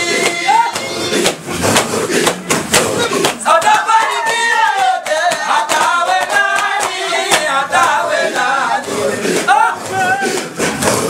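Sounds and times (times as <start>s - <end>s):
men's voices singing along: 0.0s - 11.0s
sharp regular percussive beats: 0.0s - 11.0s.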